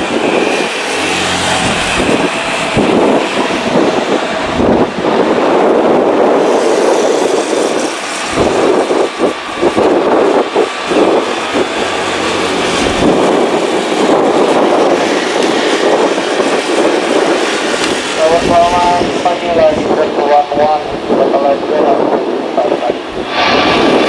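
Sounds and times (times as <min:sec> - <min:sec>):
distant jet engine noise: 0:00.0 - 0:24.0
wind on microphone: 0:00.0 - 0:24.0.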